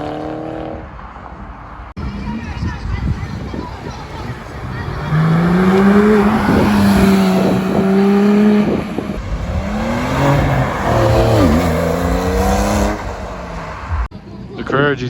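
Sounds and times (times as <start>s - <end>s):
sports car engine revving: 2.0s - 14.1s.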